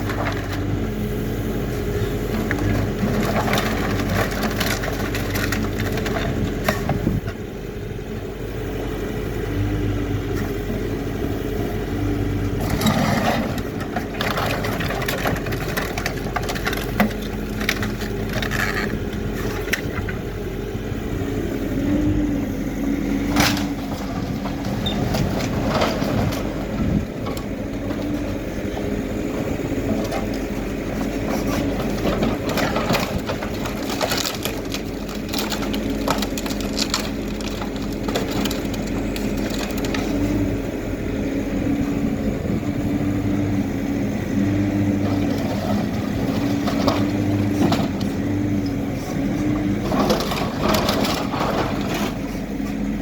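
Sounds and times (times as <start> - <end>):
rubble crunching and scraping: 0.0 - 0.9, 1.8 - 7.4, 12.5 - 20.4, 23.1 - 53.0
diesel engine running: 0.0 - 53.0.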